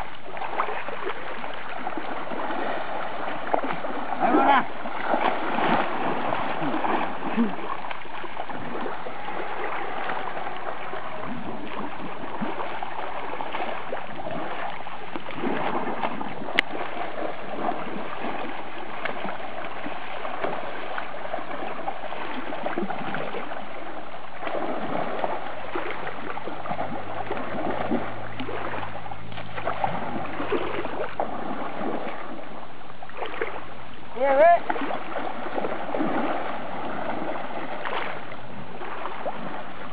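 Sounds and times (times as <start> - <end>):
elephants splashing in water: 0.0 - 39.9.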